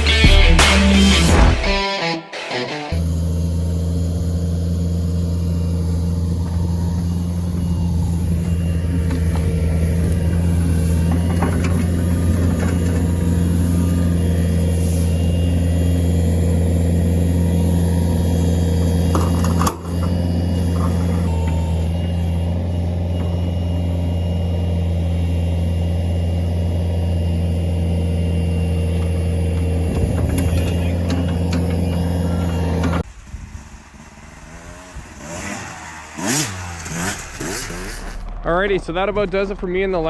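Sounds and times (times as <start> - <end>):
vehicle engine running: 0.0 - 1.8, 2.9 - 40.0.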